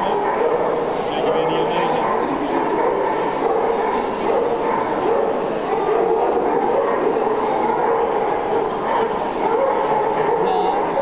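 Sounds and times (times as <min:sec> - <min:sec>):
many dogs barking: 0:00.0 - 0:11.0
people talking: 0:00.0 - 0:11.0.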